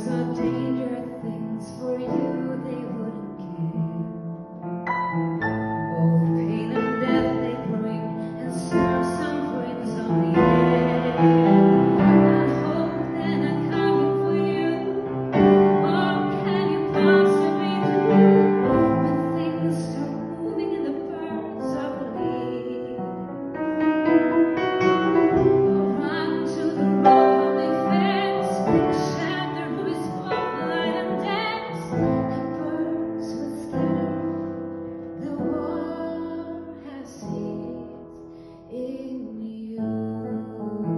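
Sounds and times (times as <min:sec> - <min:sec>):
piano playing: 0:00.0 - 0:40.9.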